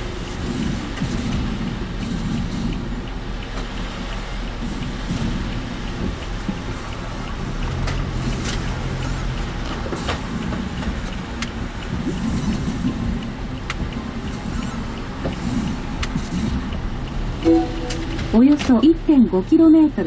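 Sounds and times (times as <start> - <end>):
sharp ticks: 0.0 - 18.9
road and engine noise in car: 0.0 - 20.0.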